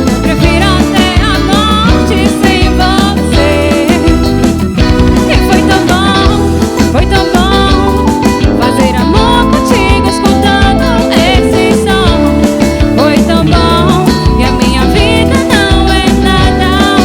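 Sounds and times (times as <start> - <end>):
electric guitar lines: 0.0 - 17.0
person singing: 0.0 - 17.0.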